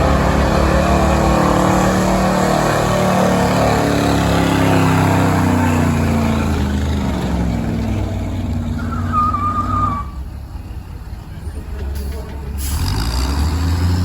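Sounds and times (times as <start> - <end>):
truck engine running hard: 0.0 - 14.0.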